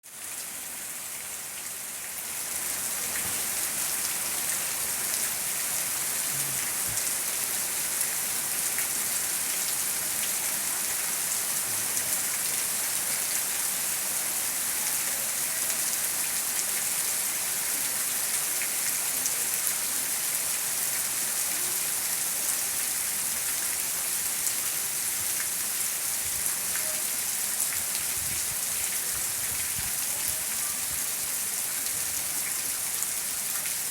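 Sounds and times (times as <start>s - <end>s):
heavy rain falling: 0.1s - 33.9s.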